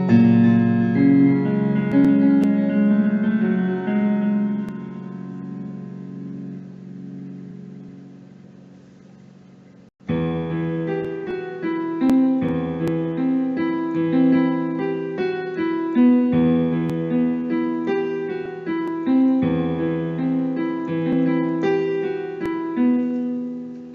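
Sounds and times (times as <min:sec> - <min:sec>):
keyboard playing piano tune: 0:00.0 - 0:23.9.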